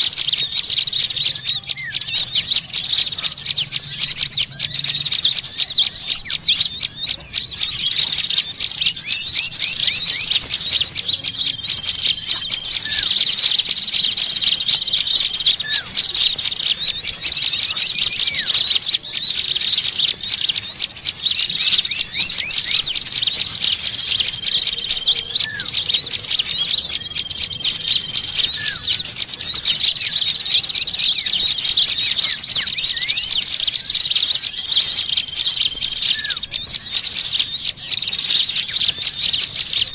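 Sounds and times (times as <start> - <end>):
songbirds chattering and chirping: 0.0 - 39.9.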